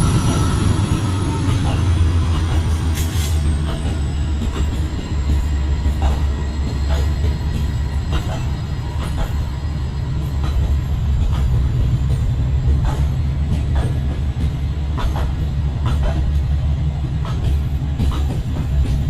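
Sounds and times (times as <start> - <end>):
clicks of train wheels: 0.0 - 19.0
train rumbling on track: 0.0 - 19.0.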